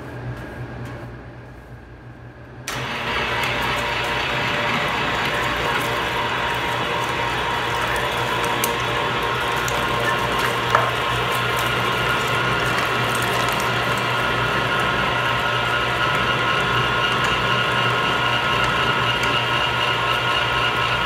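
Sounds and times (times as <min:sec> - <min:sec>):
electric meat grinder running: 0:02.7 - 0:21.0.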